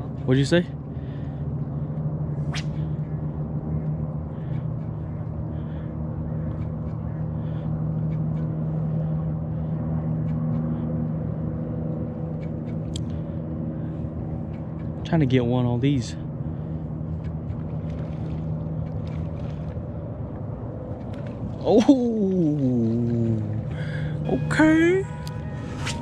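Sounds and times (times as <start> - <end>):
low motor hum: 0.0 - 26.0.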